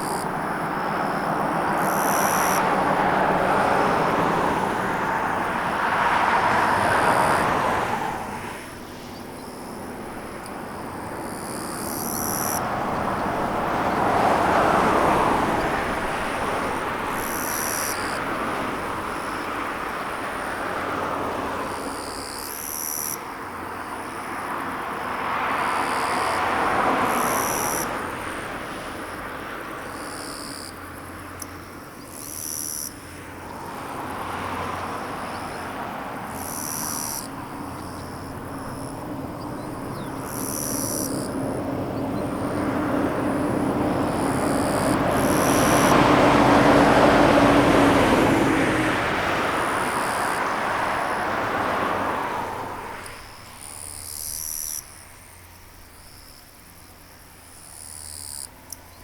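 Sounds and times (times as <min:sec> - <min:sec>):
crickets chirping: 0:00.0 - 0:59.0
road vehicles passing: 0:00.0 - 0:59.0.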